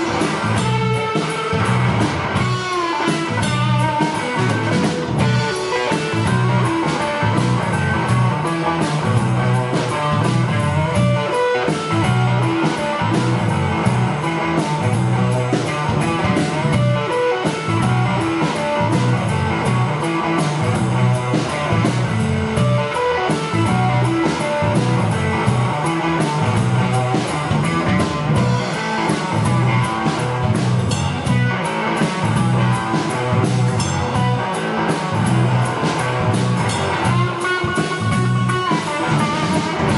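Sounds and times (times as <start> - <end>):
electric guitar: 0.0 - 39.9
live rock band playing: 0.0 - 39.9.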